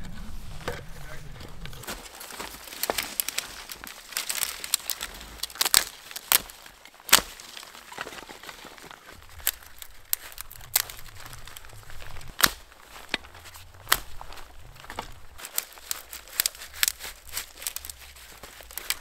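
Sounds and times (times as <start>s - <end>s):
sharp cracks and crunches: 0.6s - 19.0s.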